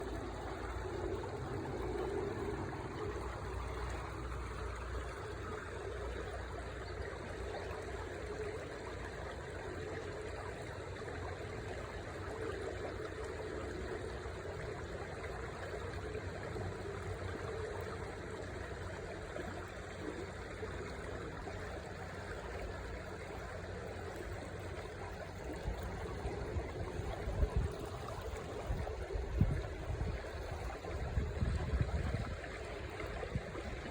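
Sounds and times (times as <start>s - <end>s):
river water running: 0.0s - 33.9s.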